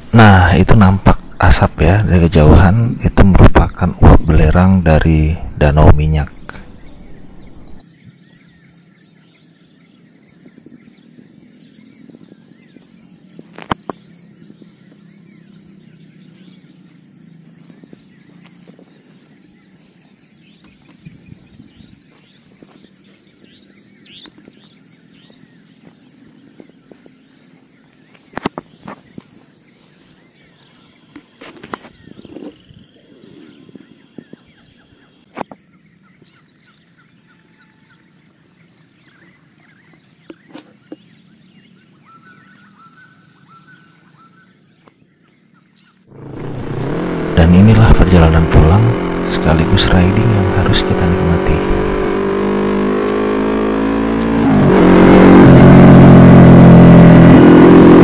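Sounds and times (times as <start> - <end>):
bird chirps: 0.0 - 54.6
crickets trilling: 0.0 - 58.0.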